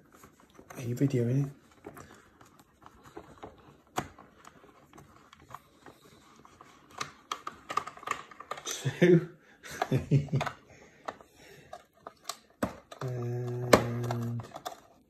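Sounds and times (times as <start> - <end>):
plastic case being handled: 0.0 - 15.0.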